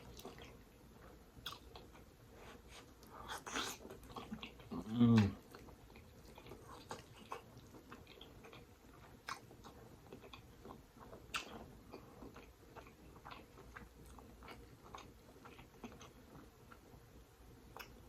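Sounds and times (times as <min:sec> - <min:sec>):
person chewing: 0:00.0 - 0:16.9, 0:17.7 - 0:18.0.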